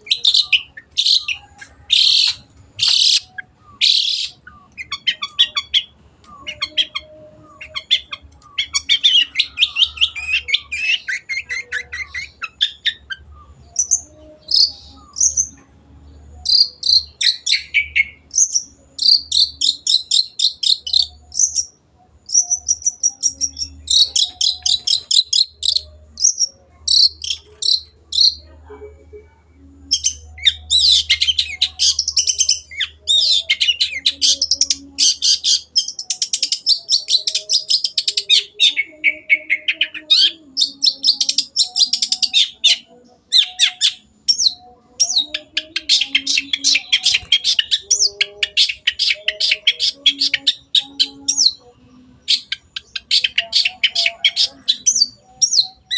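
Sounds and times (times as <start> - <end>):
bird singing scratchy chatter: 0.0 - 55.9.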